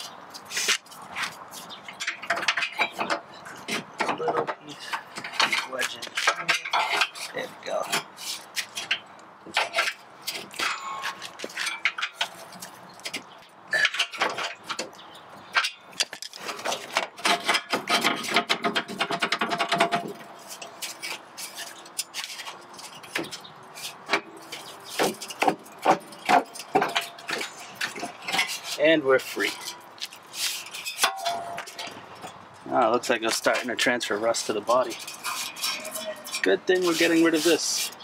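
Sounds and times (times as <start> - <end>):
metal clanking and scraping: 0.0 - 38.0.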